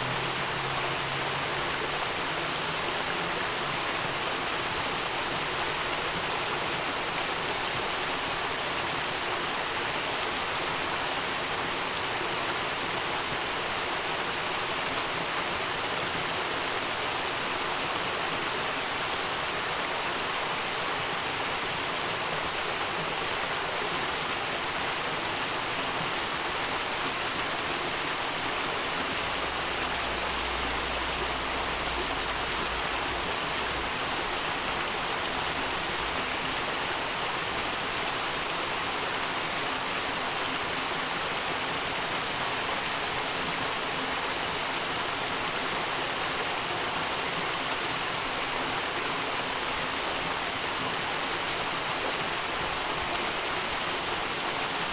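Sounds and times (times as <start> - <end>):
mountain stream rushing: 0.0 - 54.9.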